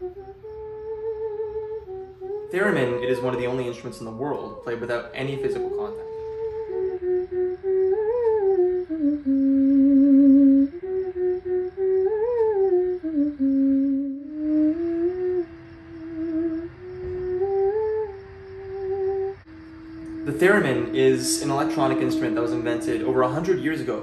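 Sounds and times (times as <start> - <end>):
theremin melody with vibrato: 0.0 - 24.0.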